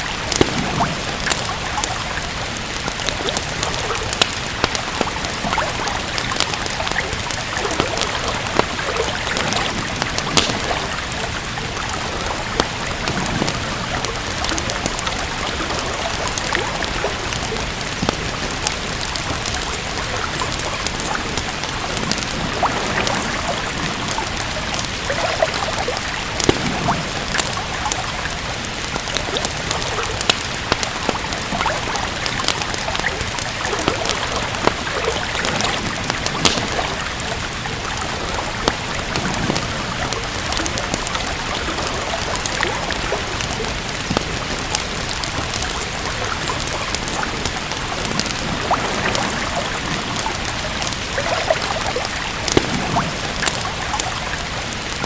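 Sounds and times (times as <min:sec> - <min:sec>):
rain hiss: 0:00.0 - 0:55.0
wood fire crackling and popping: 0:00.0 - 0:55.0.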